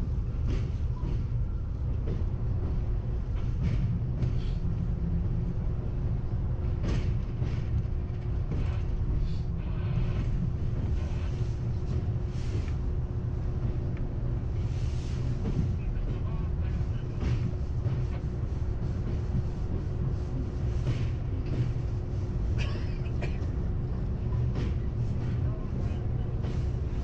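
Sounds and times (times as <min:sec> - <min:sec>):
subway train rumbling on rails: 0:00.0 - 0:27.0
train clattering: 0:00.0 - 0:27.0.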